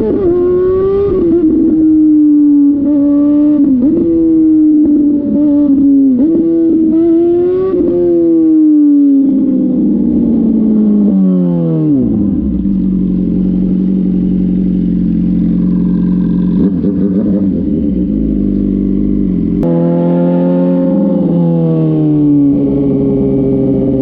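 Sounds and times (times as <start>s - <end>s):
motorcycle engine revving high: 0.0s - 24.0s.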